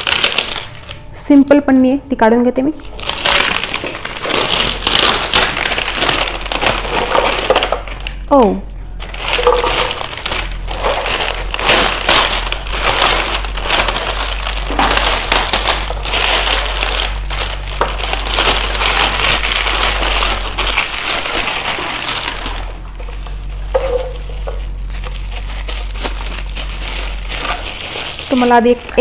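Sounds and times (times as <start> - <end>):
plastic wrapping crinkling: 0.0 - 1.5, 2.7 - 29.0
low steady hum: 0.0 - 29.0.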